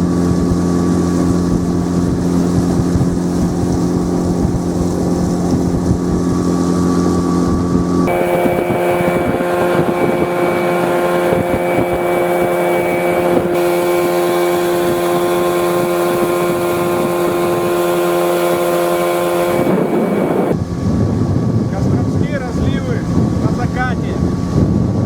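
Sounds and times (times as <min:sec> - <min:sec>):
water noise: 0:00.0 - 0:21.7
outboard motor droning: 0:00.0 - 0:25.0
wind noise: 0:00.0 - 0:25.0.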